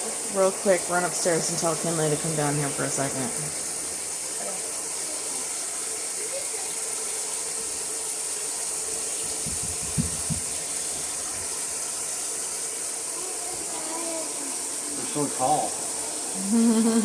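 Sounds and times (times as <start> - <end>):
running water hiss: 0.0 - 17.0.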